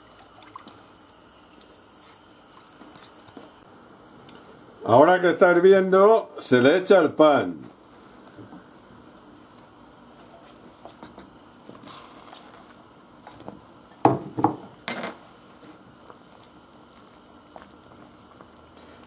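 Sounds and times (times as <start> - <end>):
soup boiling in a pot: 0.0 - 4.8, 7.7 - 19.0.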